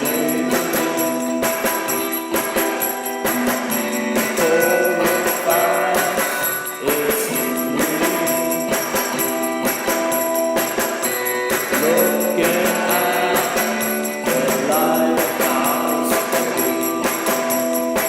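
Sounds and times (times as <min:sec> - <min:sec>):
song with steady percussion beat: 0:00.0 - 0:18.0.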